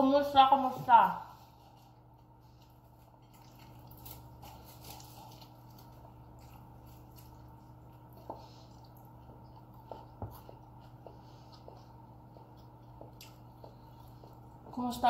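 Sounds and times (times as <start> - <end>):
steady low hum: 0.0 - 15.0
faint chewing: 1.4 - 15.0.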